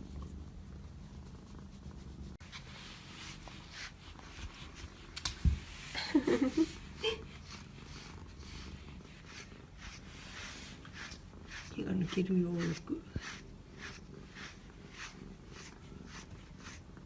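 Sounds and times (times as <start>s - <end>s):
cat purring: 0.0s - 17.0s
rustling: 0.0s - 17.0s.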